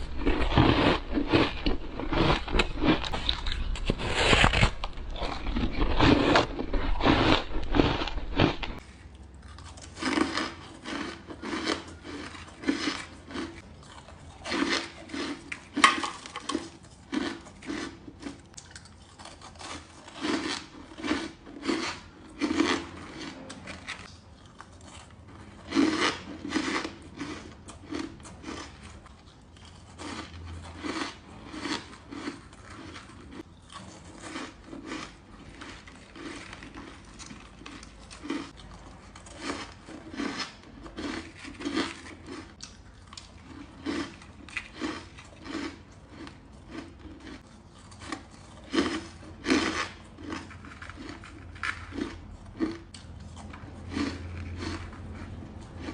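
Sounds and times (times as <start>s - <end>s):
ice being bitten and chewed: 0.0s - 55.9s.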